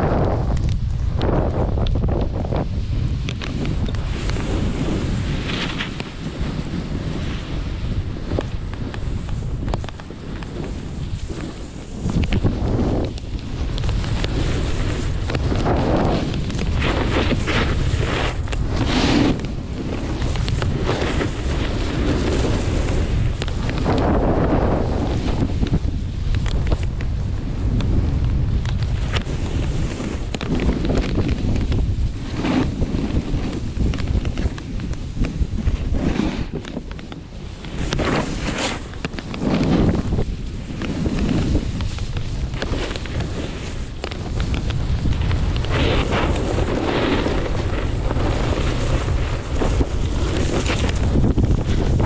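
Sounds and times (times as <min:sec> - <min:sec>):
snowboard scraping over snow: 0:00.0 - 0:52.0
wind buffeting microphone: 0:00.0 - 0:52.0.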